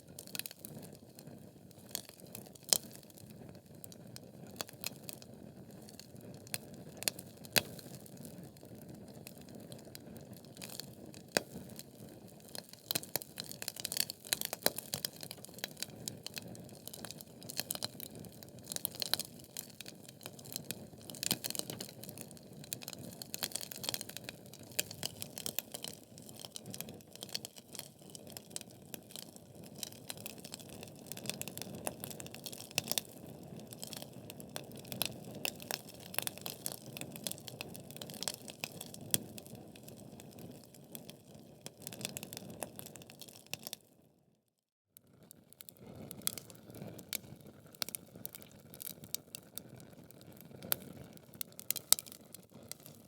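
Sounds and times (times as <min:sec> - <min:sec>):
wood fire crackling and popping: 0:00.0 - 0:43.8, 0:45.6 - 0:53.0.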